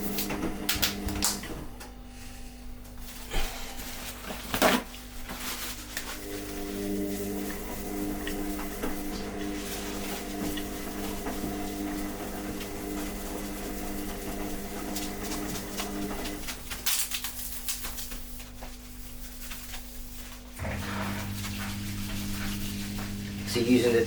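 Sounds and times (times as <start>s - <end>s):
tissue scrubbing on metal sheet: 3.1s - 24.0s.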